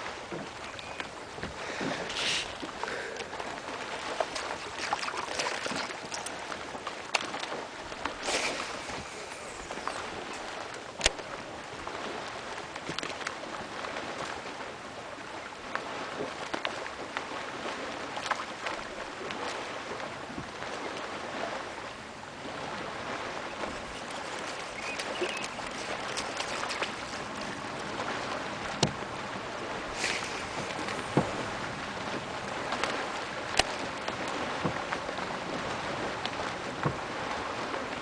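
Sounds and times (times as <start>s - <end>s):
water lapping against boat hull: 0.0s - 38.0s.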